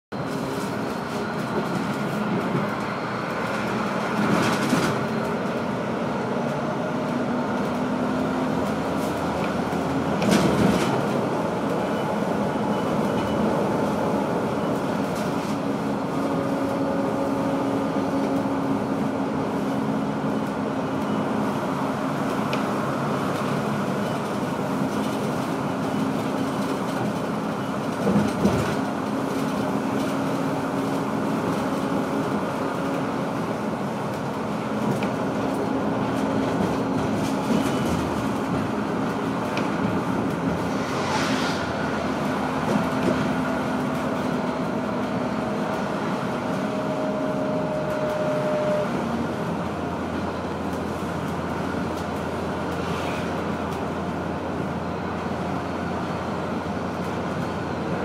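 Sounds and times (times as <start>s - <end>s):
bus engine and road noise: 0.1s - 58.0s.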